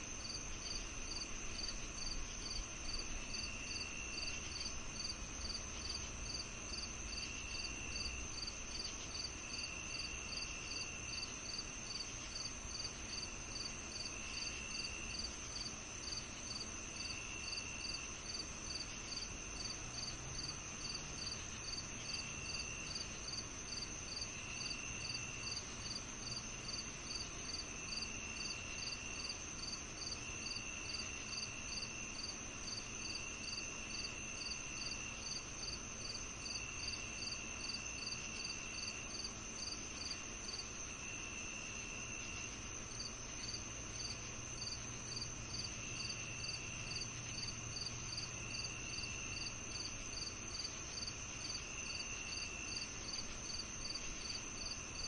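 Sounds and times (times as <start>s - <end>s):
continuous high insect trill: 0.0s - 55.0s
crickets chirping: 0.0s - 55.0s
lower insect trill: 0.0s - 55.0s.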